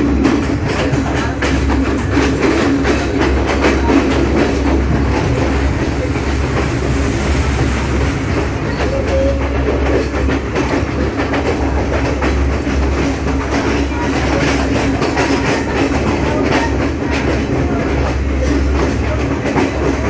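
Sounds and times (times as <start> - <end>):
train wheels clattering: 0.0 - 20.0.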